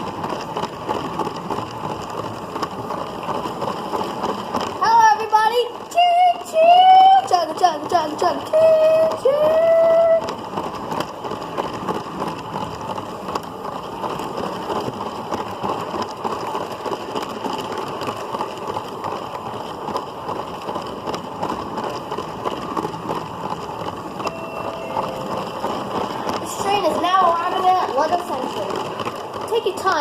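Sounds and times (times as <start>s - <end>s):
toy train wheels and motor rattling: 0.0s - 30.0s.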